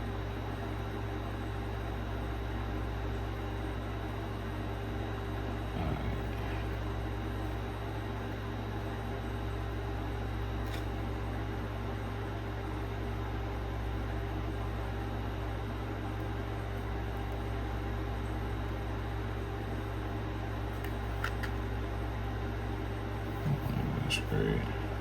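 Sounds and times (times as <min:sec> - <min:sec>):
fan motor whirring: 0:00.0 - 0:25.0.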